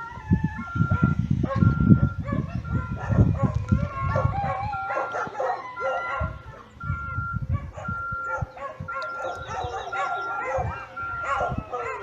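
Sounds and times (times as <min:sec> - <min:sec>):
dogs howling and yipping: 0:00.0 - 0:12.0
vehicle reversing alarm beeps: 0:00.0 - 0:12.0.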